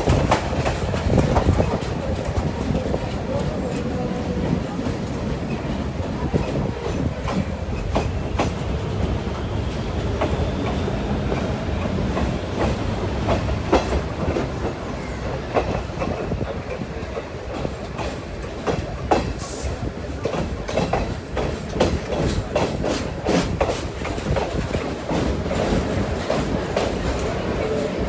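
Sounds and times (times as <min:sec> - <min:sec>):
train rumbling along track: 0:00.0 - 0:28.0
wheels clicking over rail joints: 0:00.0 - 0:28.0.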